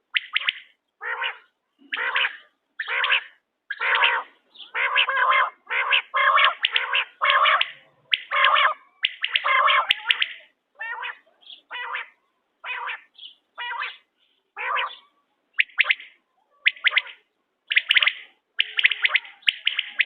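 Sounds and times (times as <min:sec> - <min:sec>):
quail calls: 0:00.0 - 0:20.0.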